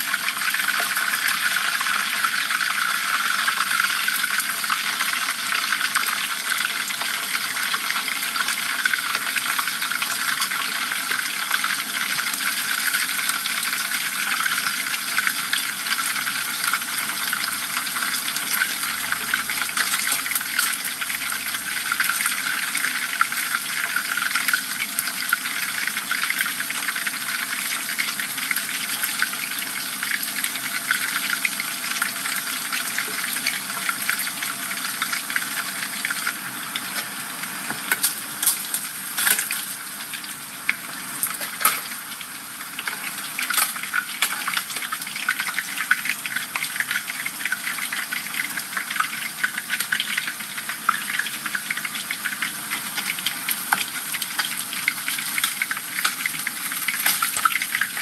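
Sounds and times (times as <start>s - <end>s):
hot oil sizzling and bubbling: 0.0s - 58.0s.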